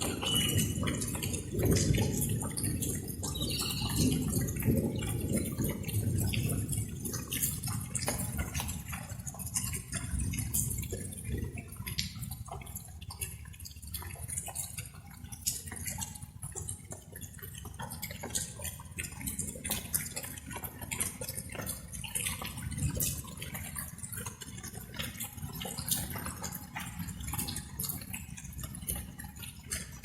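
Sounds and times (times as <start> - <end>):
light rain dripping: 0.0 - 30.0.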